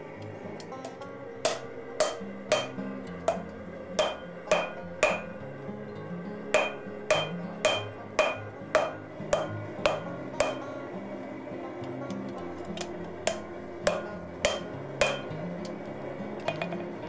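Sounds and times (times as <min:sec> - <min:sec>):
hammer striking hot steel on anvil: 0:00.8 - 0:05.6, 0:06.5 - 0:17.0.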